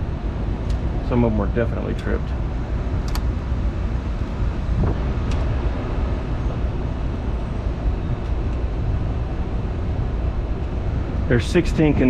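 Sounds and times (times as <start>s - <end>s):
air unit blower rumble: 0.0s - 12.0s.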